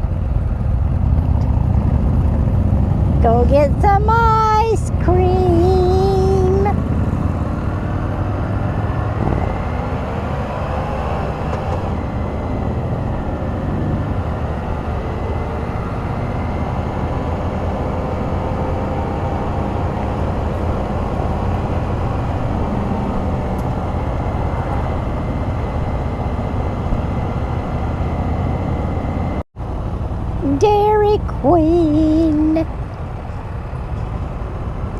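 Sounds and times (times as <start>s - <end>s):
three-wheeler engine running: 0.0s - 34.9s
wind and road noise: 0.0s - 34.9s.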